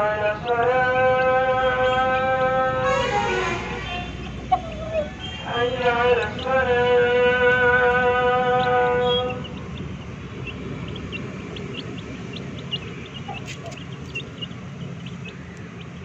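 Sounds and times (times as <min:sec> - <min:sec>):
chicks peeping: 0:00.0 - 0:02.7, 0:04.0 - 0:16.0.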